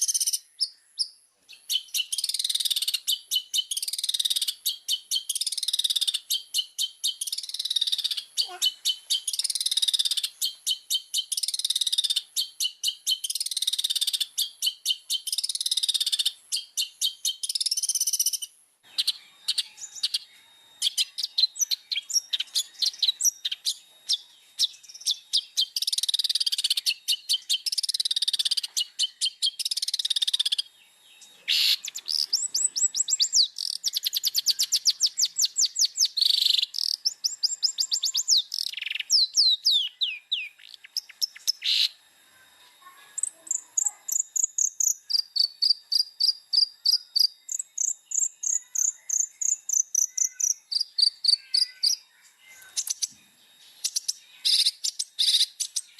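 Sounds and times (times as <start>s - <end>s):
shrike singing: 1.5s - 42.5s, 43.2s - 55.9s.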